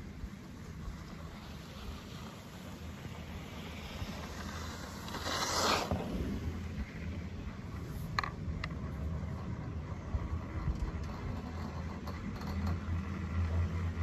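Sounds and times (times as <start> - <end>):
chairlift rope low rumble: 0.0 - 14.0.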